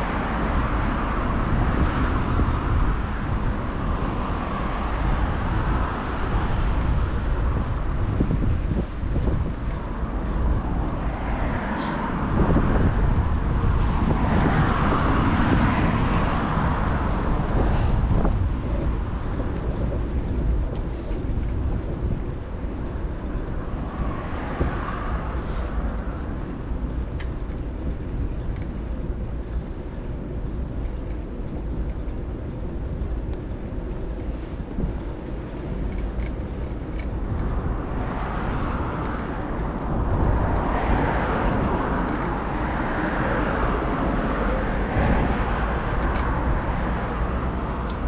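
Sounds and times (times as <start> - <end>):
passing traffic: 0.0 - 48.0
wind rumble on microphone: 0.0 - 48.0.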